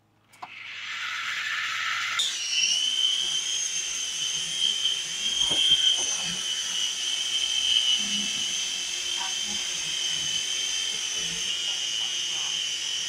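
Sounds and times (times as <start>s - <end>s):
toy helicopter rotor whine: 0.4s - 13.0s.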